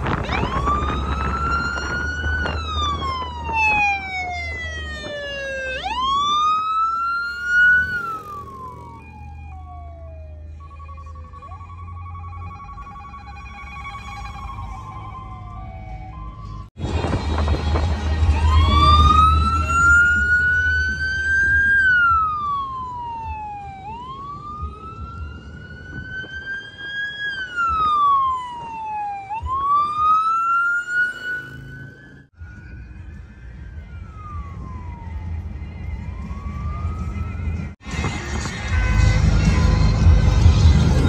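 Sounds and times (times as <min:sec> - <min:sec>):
emergency vehicle siren wailing: 0:00.0 - 0:41.0.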